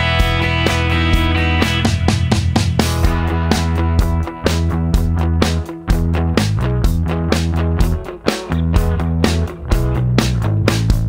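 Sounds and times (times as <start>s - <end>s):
rock music with drums and guitar: 0.0s - 11.0s.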